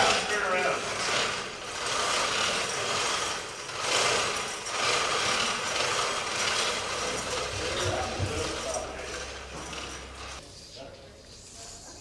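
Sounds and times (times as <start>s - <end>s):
chain hoists rattling and ratcheting: 0.0s - 10.4s.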